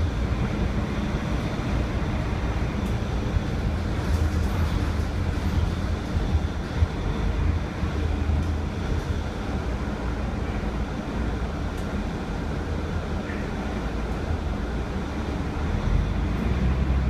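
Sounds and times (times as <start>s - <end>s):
bus diesel engine rumble: 0.0s - 17.0s
road noise: 0.0s - 17.0s.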